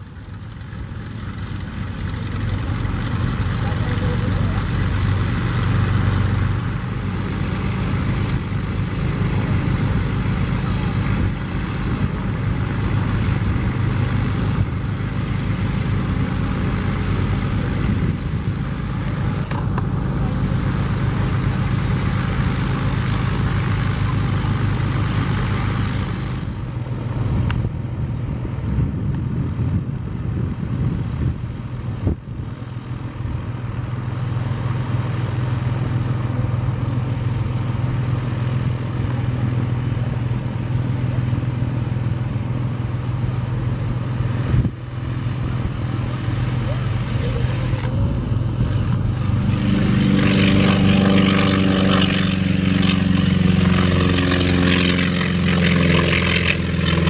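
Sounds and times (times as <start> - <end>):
propeller aircraft engine running: 0.0 - 57.0.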